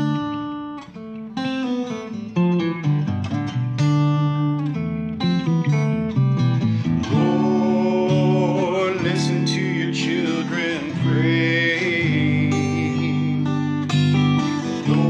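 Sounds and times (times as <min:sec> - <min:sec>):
slow acoustic guitar music: 0:00.0 - 0:15.0.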